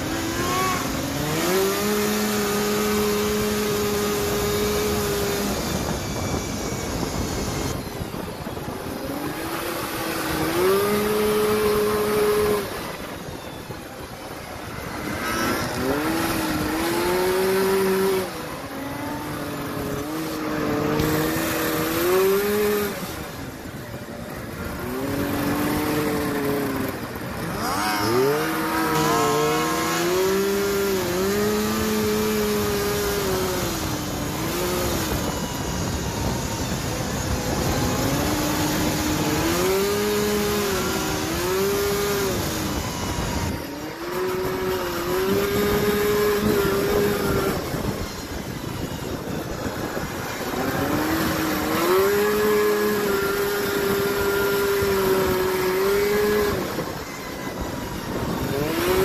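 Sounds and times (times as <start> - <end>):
kart engines revving: 0.0 - 59.0
rush of driving on dirt: 0.0 - 59.0.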